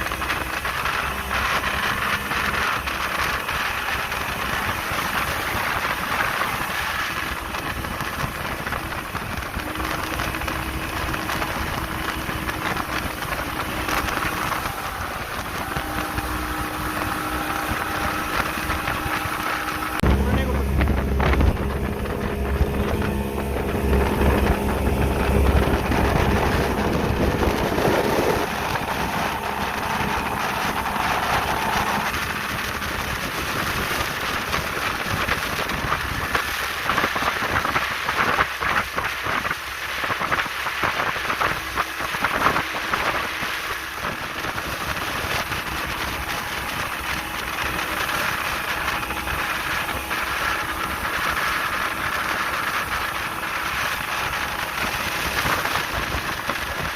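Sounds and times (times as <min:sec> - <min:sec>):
boat engine humming: 0:00.0 - 0:56.9
water splashing against hull: 0:00.0 - 0:56.9
water spray rushing: 0:00.0 - 0:56.9
wind noise: 0:00.0 - 0:56.9.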